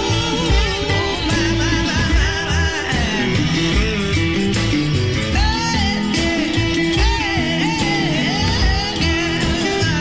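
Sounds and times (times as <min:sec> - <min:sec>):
bass: 0:00.0 - 0:10.0
bending guitar lead melody: 0:00.0 - 0:10.0
drums: 0:00.0 - 0:10.0.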